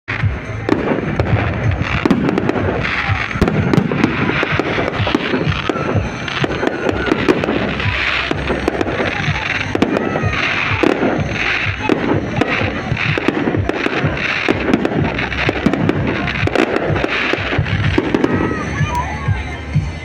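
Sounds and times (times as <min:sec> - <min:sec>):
fireworks bangs and crackling: 0:00.1 - 0:20.0.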